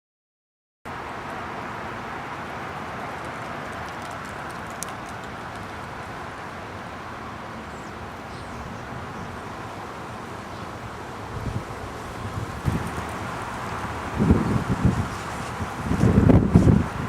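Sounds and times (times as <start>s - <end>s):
outdoor background hiss: 0.9s - 17.0s.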